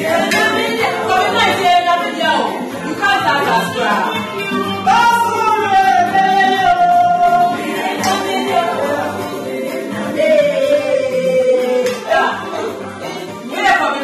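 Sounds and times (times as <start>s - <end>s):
backing music: 0.0s - 14.0s.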